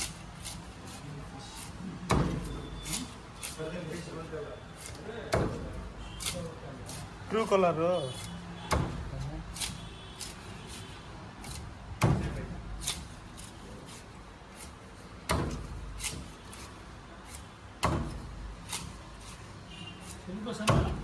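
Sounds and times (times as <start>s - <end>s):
knife chopping fish: 0.0s - 21.0s.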